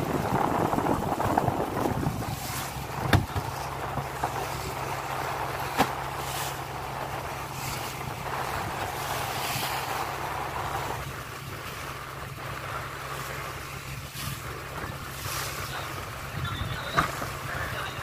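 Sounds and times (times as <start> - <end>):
boat engine drone: 0.0 - 18.0
water rushing along hull: 0.0 - 18.0
wind on microphone: 0.0 - 18.0.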